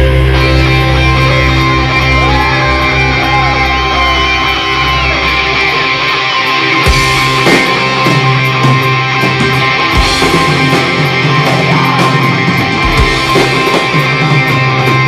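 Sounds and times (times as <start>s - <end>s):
live rock music with electric guitar: 0.0s - 15.0s.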